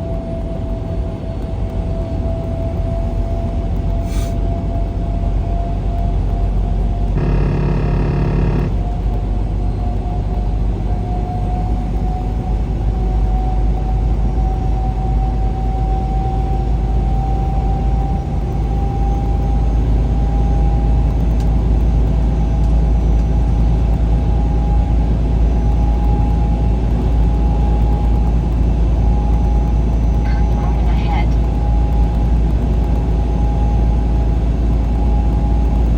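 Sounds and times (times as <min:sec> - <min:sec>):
rising engine whine: 0:00.0 - 0:35.9
truck engine and road rumble: 0:00.0 - 0:35.9.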